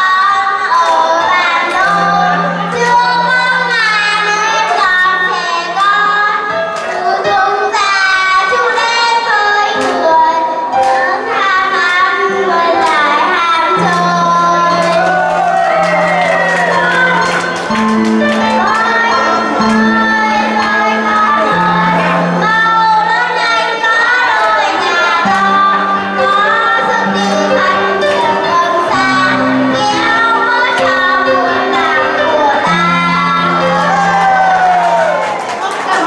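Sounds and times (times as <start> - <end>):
children singing into microphone: 0.0 - 36.0.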